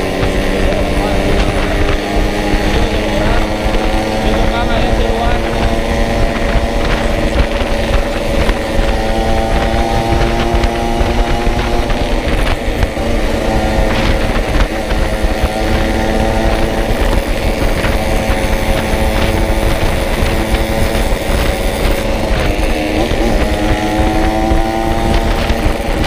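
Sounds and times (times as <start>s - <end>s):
two-stroke motorcycle engine running: 0.0s - 26.0s.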